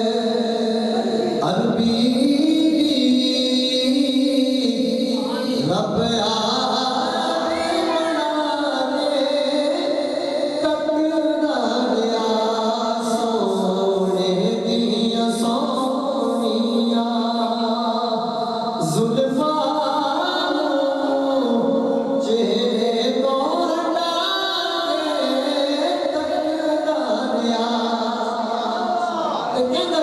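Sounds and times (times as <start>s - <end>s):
man singing unaccompanied: 0.0s - 30.0s.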